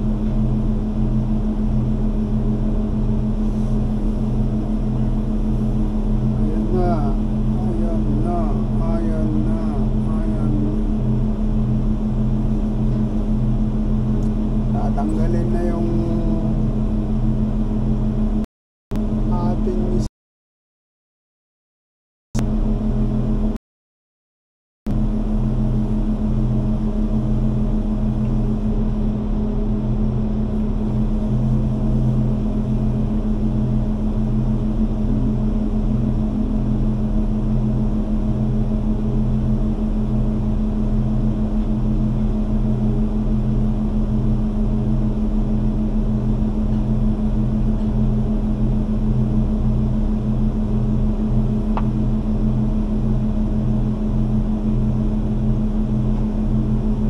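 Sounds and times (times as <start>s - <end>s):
heavy engine running with throb: 0.0s - 20.1s, 22.4s - 23.6s, 24.9s - 57.0s.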